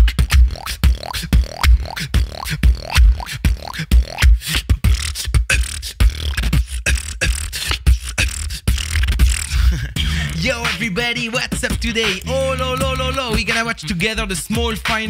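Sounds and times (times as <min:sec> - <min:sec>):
person beatboxing: 0:00.0 - 0:15.0.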